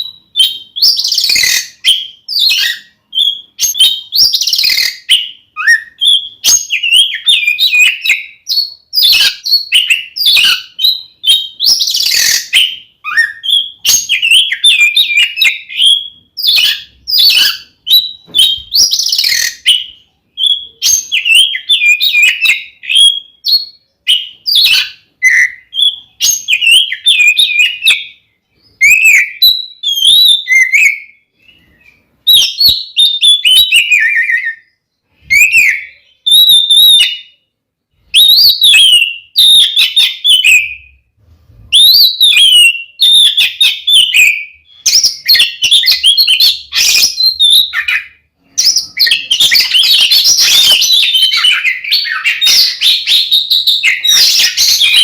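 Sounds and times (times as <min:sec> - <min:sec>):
bird singing whistled phrases: 0:00.0 - 0:37.4, 0:38.2 - 0:41.0, 0:41.7 - 0:55.0.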